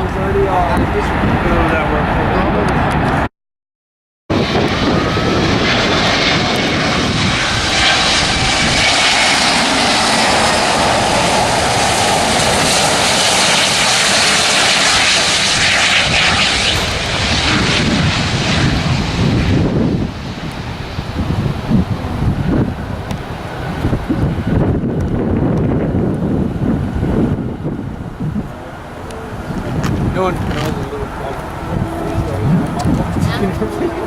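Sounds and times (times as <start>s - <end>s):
jet engines passing close: 0.0s - 3.3s, 4.3s - 34.0s.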